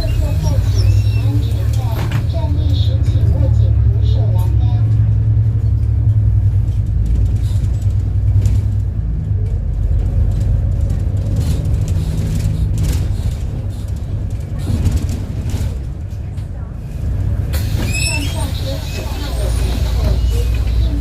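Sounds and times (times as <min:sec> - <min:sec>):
bus engine humming: 0:00.0 - 0:21.0.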